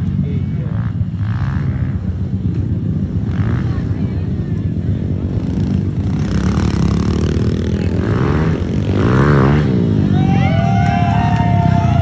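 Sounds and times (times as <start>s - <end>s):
pit bike engines running hard: 0.0s - 12.0s.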